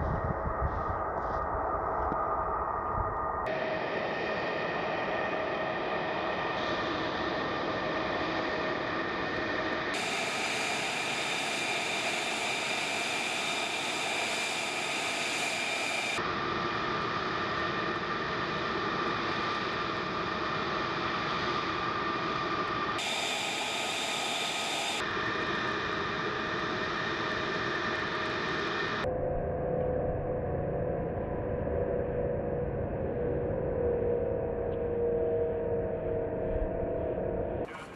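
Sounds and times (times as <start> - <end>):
jet engine rushing and whining: 0.0 - 37.9.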